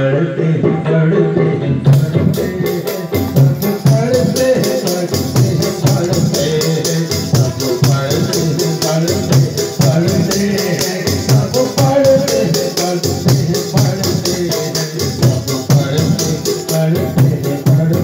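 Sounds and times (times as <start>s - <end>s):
hand drums: 1.9s - 18.0s
sharp high percussion beat: 1.9s - 18.0s.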